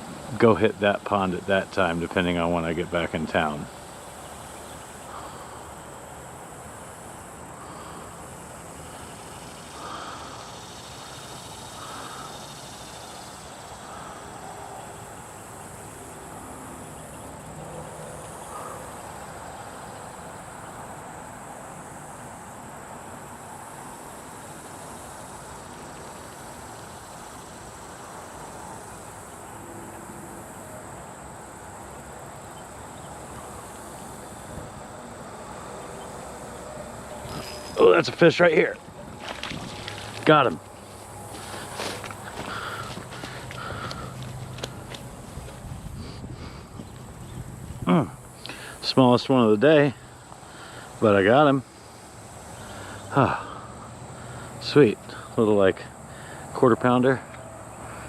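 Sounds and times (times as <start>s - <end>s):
crickets chirring: 0.0s - 58.0s
low rumble of wind or traffic: 0.0s - 58.0s
outdoor background noise by pond: 0.0s - 58.0s.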